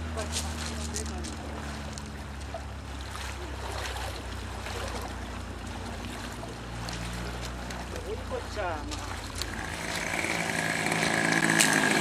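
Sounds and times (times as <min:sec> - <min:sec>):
choppy lake water: 0:00.0 - 0:12.0.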